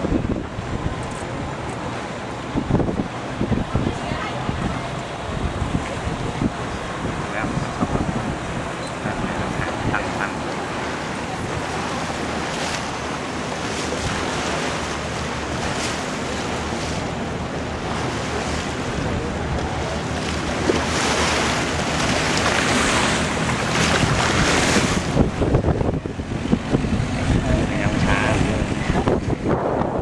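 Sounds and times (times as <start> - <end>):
boat engine droning: 0.0 - 30.0
water rushing past hull: 0.0 - 30.0
wind buffeting microphone: 0.0 - 30.0.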